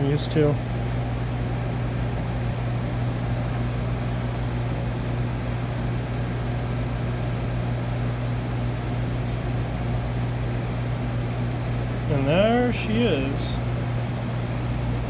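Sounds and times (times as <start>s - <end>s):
low electrical hum: 0.0s - 15.0s
shop equipment whirring: 0.0s - 15.0s.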